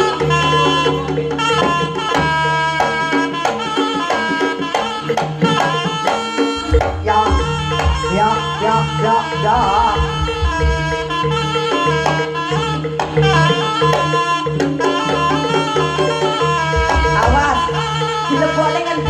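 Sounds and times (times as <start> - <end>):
deep drum pattern: 0.0 - 18.8
hand drum: 0.0 - 19.0
metal percussion strokes: 0.0 - 19.0
reed wind instrument melody: 0.0 - 19.0.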